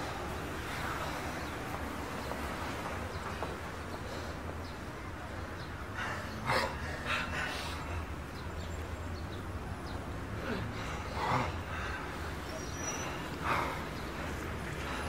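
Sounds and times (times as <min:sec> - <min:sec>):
low street hum: 0:00.0 - 0:15.0.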